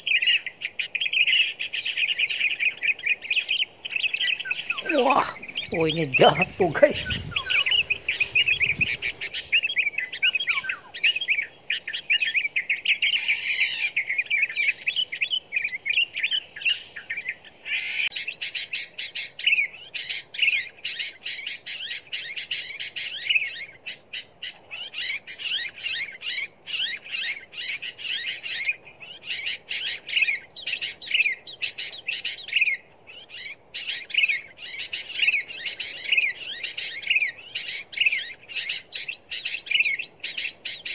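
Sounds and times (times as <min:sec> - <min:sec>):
small birds chirping rapidly: 0:00.0 - 0:40.9.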